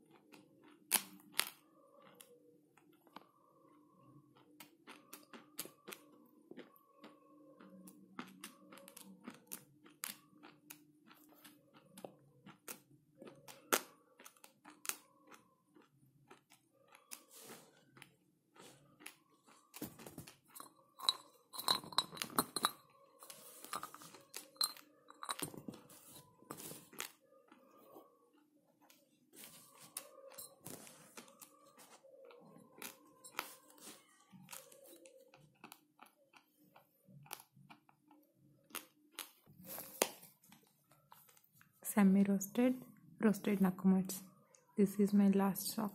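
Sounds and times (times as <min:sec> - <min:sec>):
crunching and chewing clay: 0:00.0 - 0:41.8.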